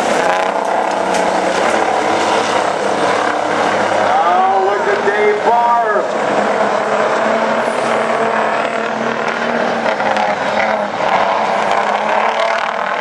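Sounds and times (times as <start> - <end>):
truck diesel engines racing: 0.0 - 13.0.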